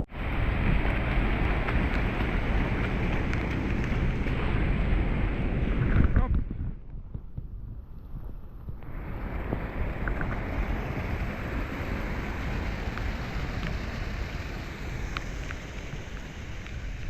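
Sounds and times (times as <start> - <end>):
flowing water: 0.0 - 6.1, 8.0 - 17.0
rain: 0.0 - 6.1, 7.9 - 17.0
wind buffeting microphone: 0.0 - 17.0.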